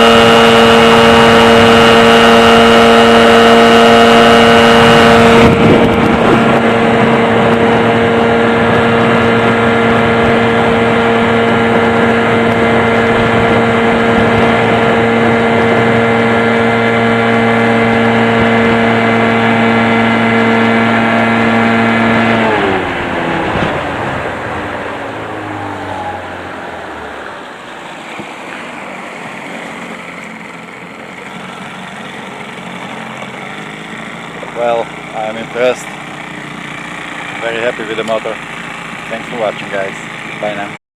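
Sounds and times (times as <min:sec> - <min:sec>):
outboard motor running: 0:00.0 - 0:40.8.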